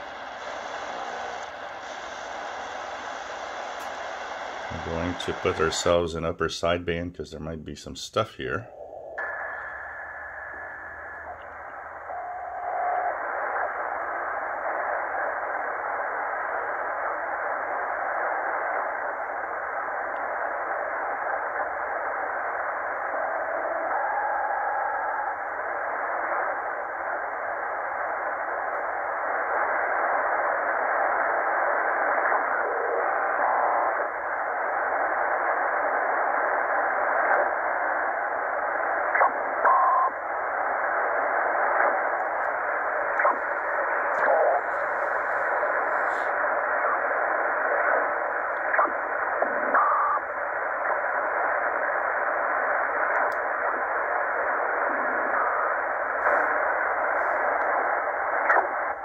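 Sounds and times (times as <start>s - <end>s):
radio whistles and sliding tones: 0.0s - 6.5s, 8.7s - 59.0s
radio band noise hiss: 0.0s - 59.0s.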